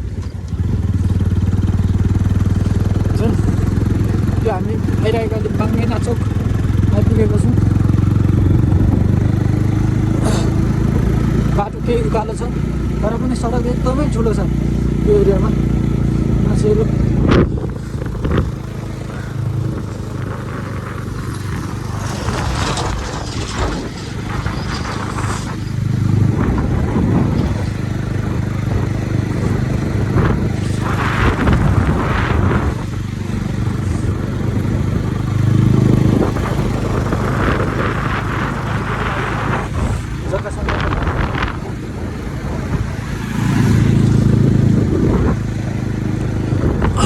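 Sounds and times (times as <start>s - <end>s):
motorcycle engine running: 0.0s - 47.0s
road noise: 0.0s - 47.0s.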